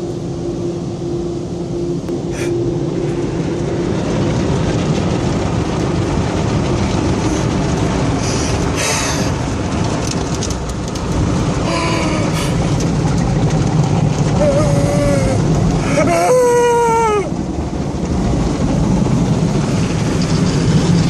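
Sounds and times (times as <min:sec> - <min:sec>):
spraying water: 0:02.2 - 0:21.0.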